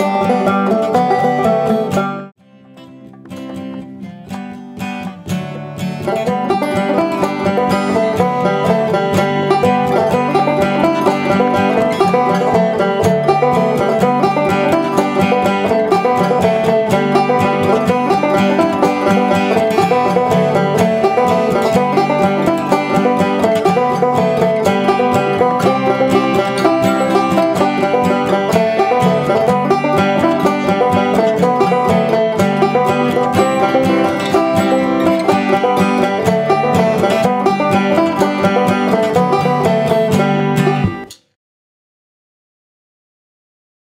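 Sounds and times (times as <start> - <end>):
banjo fingerpicking: 0.0 - 41.4.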